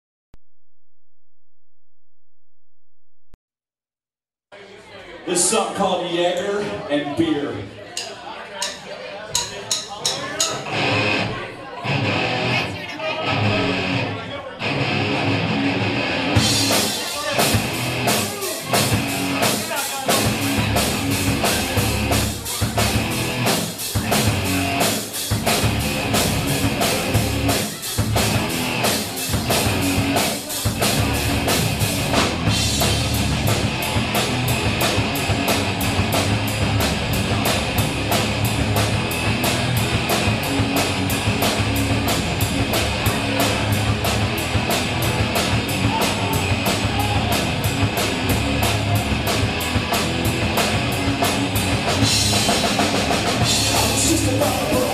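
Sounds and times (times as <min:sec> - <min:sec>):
rock music with drums and guitar: 0:10.4 - 0:54.9.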